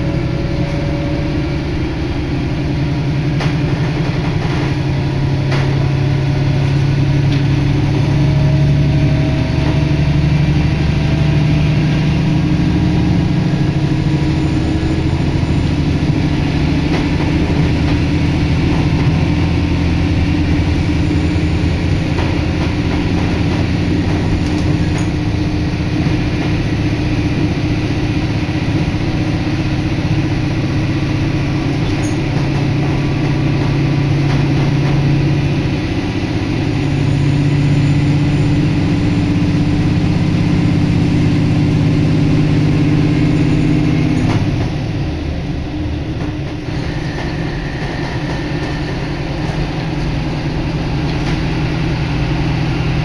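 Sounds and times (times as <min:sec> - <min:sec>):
railcar engine drone: 0:00.0 - 0:53.0
wheels rumbling on rails: 0:00.0 - 0:53.0.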